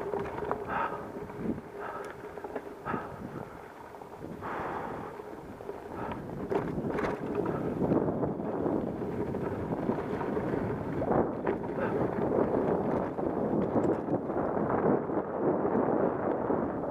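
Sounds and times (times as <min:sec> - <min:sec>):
bike rattles and knocks: 0:00.0 - 0:15.0
bike tyres on loose dirt: 0:00.0 - 0:16.9
wind buffeting microphone: 0:00.0 - 0:16.9.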